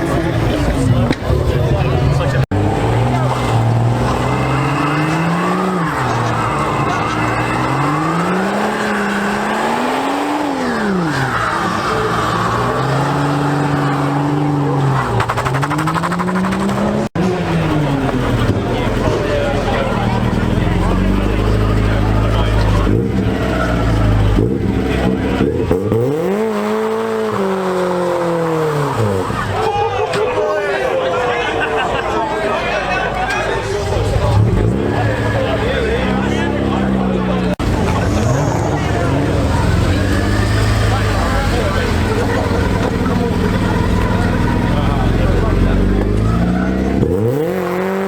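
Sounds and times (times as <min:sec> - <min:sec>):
car engine revving: 0:00.0 - 0:29.8, 0:33.2 - 0:48.0.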